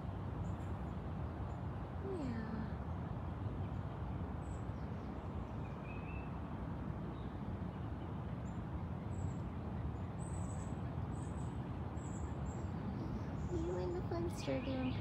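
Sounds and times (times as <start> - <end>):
low outdoor rumble: 0.0 - 5.6, 6.3 - 15.0.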